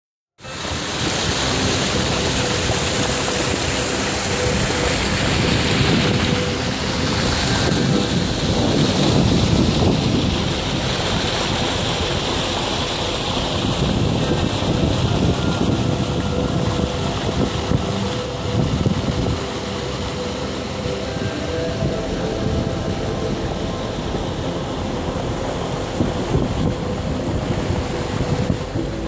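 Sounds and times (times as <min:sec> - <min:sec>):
water rushing over a dam spillway: 0:00.4 - 0:29.0
wind buffeting microphone: 0:00.5 - 0:29.0.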